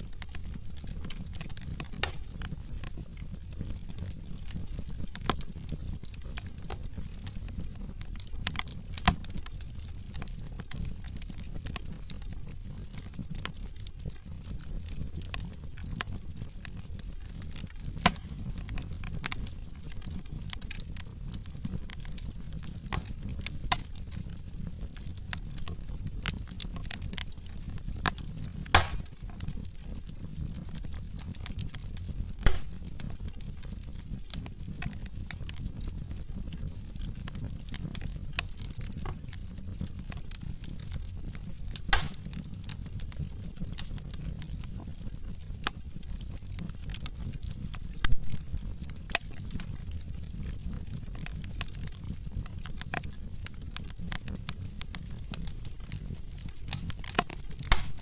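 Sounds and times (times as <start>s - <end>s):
fire pops: 0.0s - 58.0s
wood fire crackling: 0.0s - 58.0s.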